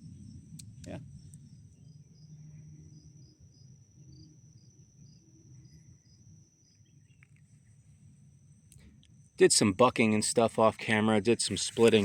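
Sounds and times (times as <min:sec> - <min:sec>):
crickets trilling: 0:00.0 - 0:12.0
low background rumble: 0:00.0 - 0:12.0
regular insect chirp: 0:00.0 - 0:12.0.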